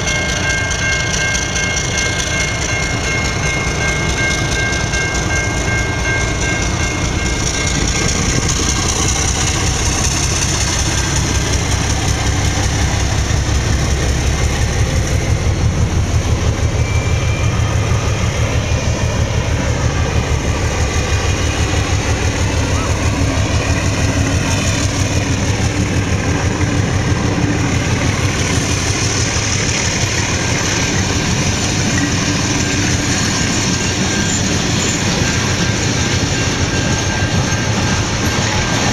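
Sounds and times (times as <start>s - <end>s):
train wheels on rails: 0.0s - 38.9s
locomotive engine rumble: 1.6s - 38.9s.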